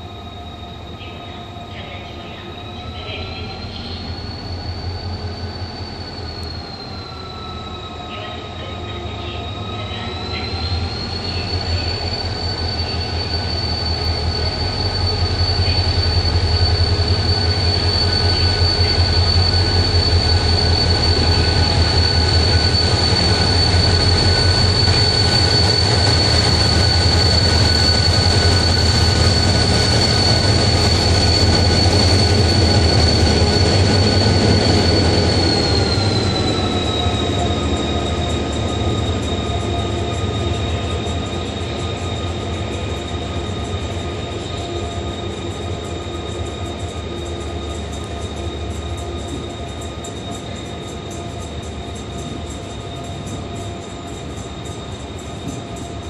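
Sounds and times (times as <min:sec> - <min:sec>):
diesel locomotive engine throb: 0:00.0 - 0:56.0
high whine: 0:09.8 - 0:56.0.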